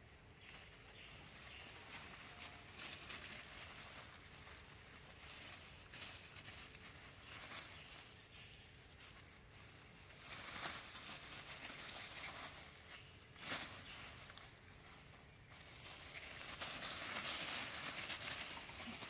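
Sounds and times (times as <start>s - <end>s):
footsteps in dry leaves: 0.5s - 19.0s.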